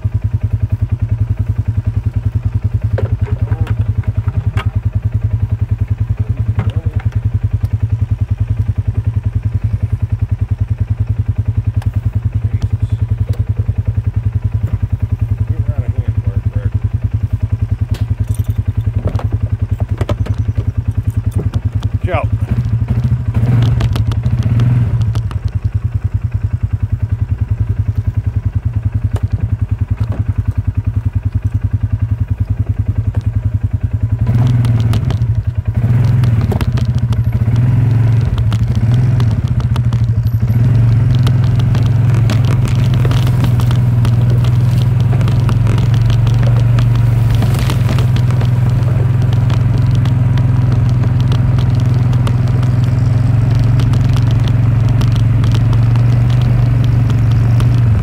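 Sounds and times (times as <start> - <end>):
tractor engine running: 0.0 - 58.0
rattling and clatter: 1.3 - 26.1, 27.0 - 58.0.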